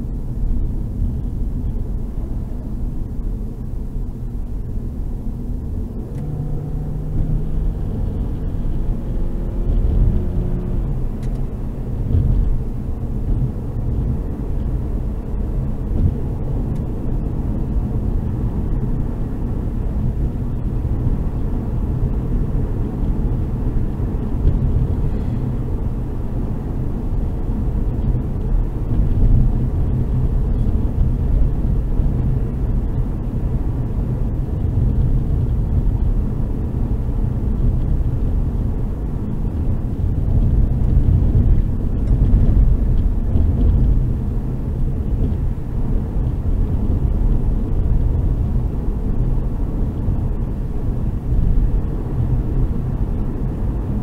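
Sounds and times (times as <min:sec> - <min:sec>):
car road and engine drone: 0:00.0 - 0:54.0.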